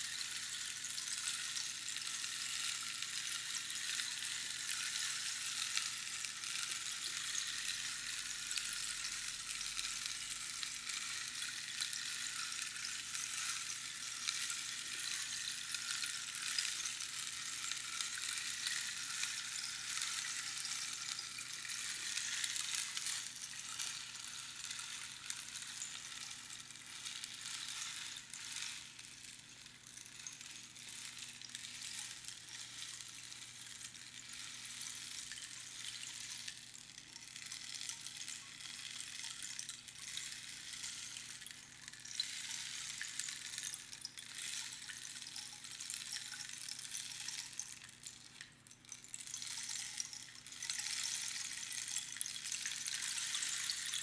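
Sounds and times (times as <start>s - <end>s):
rainstick trickling hiss: 0.0s - 54.0s.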